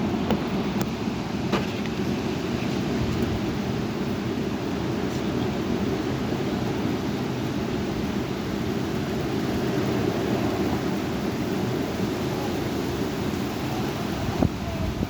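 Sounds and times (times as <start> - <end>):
heavy wind rushing: 0.0 - 15.0.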